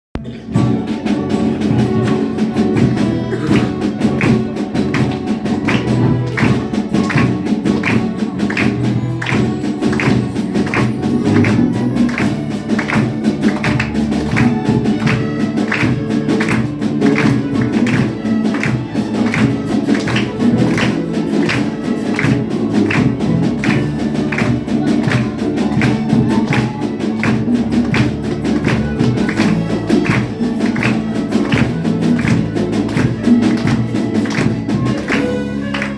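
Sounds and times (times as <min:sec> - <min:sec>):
orchestra playing: 0:00.2 - 0:35.9
sharp percussion strokes: 0:00.2 - 0:35.9.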